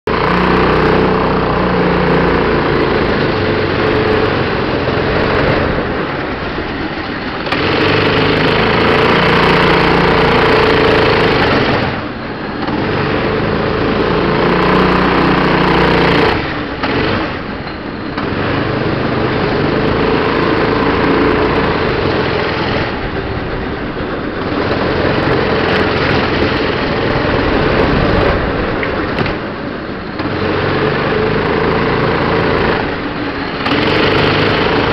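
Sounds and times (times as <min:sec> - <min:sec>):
go-kart engine running: 0:00.0 - 0:34.9.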